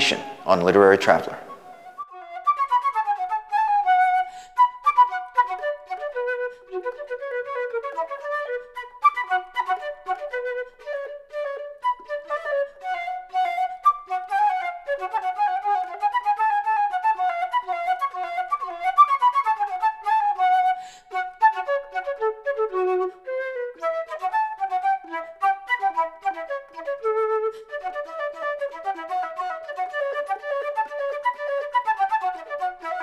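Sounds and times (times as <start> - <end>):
flute playing quick melody: 0.0 - 33.0.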